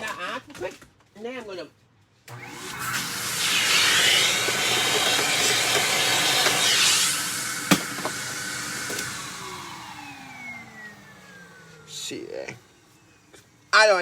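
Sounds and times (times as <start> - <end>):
vacuum cleaner running: 2.3 - 14.0.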